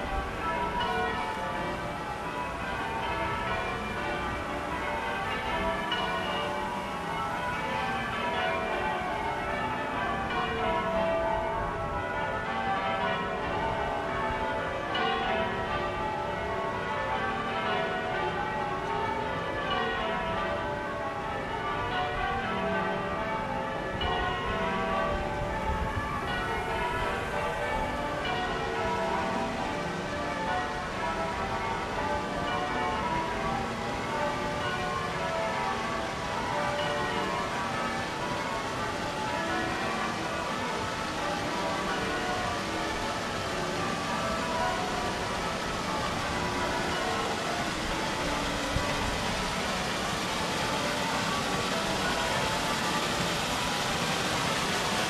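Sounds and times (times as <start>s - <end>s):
church bells ringing: 0.0s - 55.0s.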